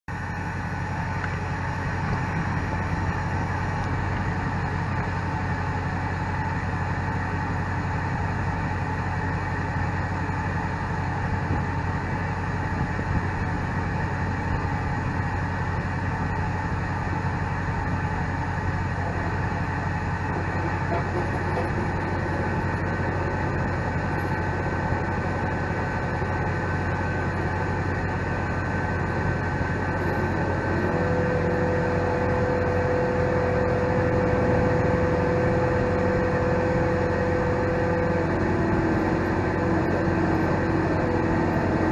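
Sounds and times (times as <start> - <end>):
engine running steadily: 0.0 - 41.9.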